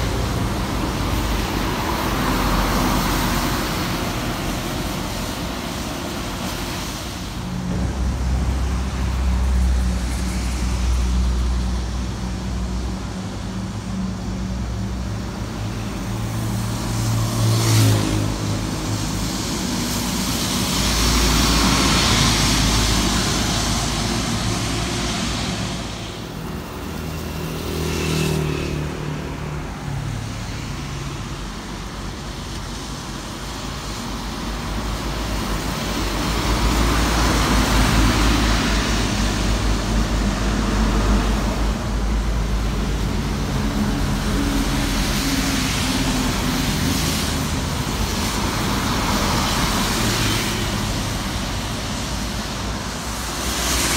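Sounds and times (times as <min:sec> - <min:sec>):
tyres hissing on wet road: 0:00.0 - 0:53.9
vehicles passing: 0:00.0 - 0:53.9.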